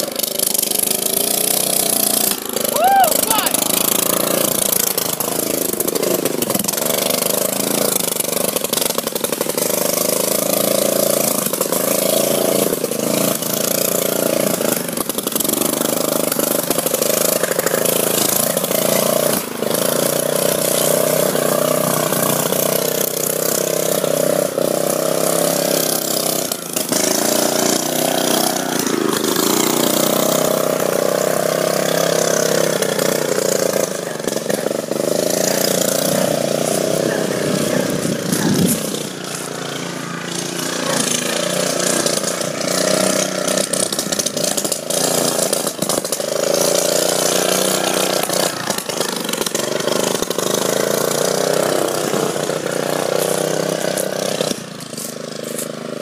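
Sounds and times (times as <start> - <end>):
riding lawn mower engine running: 0.0 - 56.0.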